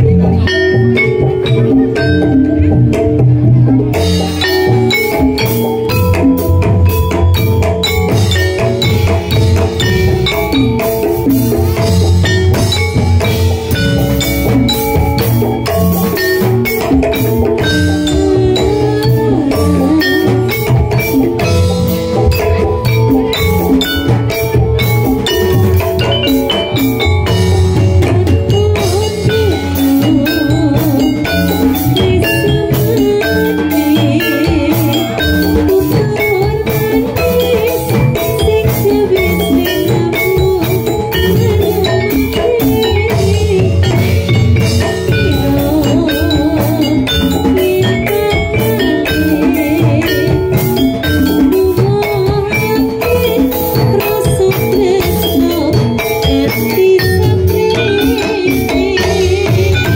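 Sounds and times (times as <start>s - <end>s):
hand drumming: 0.0s - 59.9s
metallophones ringing melody: 0.0s - 59.9s.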